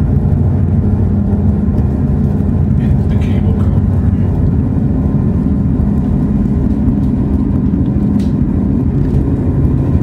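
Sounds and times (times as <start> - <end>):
cable car cabin rumble and hum: 0.0 - 10.0.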